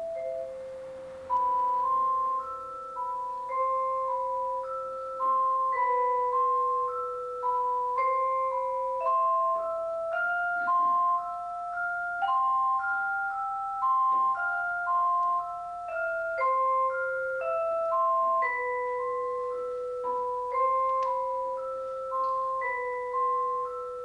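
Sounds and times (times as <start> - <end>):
vibraphone melody: 0.0 - 24.0.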